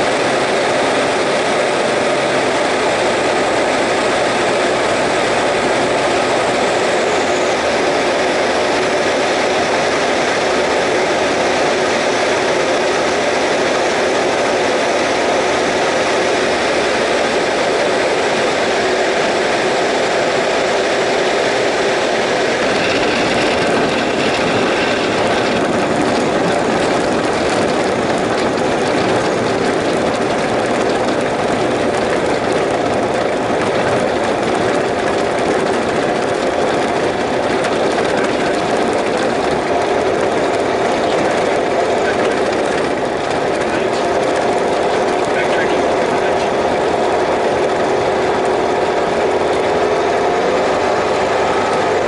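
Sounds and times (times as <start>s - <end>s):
aircraft engine and propeller: 0.0s - 52.0s.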